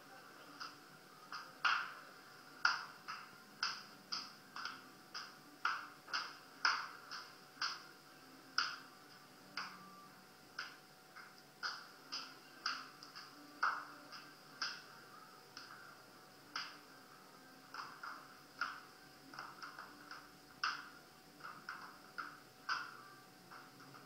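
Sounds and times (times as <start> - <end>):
dance music beat through small speaker: 0.0 - 24.0.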